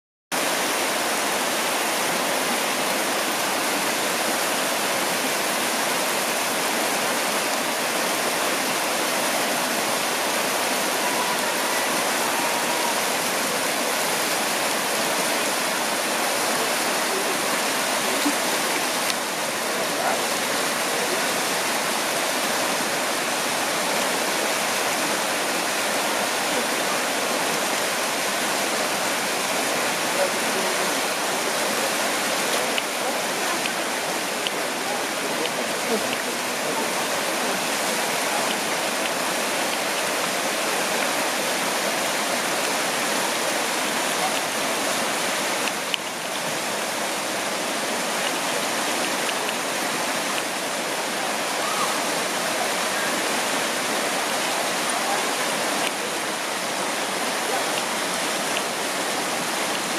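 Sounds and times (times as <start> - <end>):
river rushing over stones: 0.3 - 59.9.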